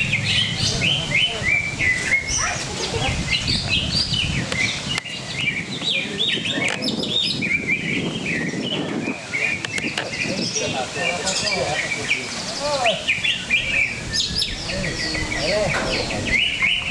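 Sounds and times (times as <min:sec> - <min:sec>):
birds chirping and whistling: 0:00.0 - 0:16.9
murmur of voices: 0:00.0 - 0:16.9.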